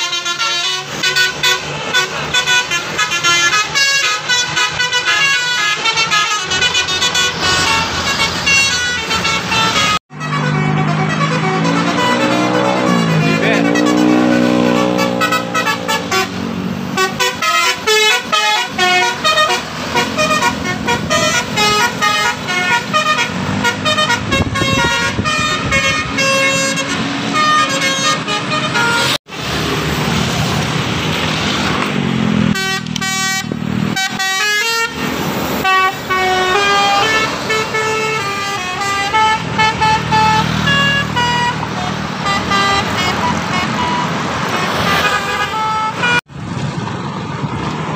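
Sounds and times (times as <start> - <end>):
melodic bus air horns: 0.0 - 29.2, 32.5 - 46.3
road traffic noise: 0.0 - 47.9.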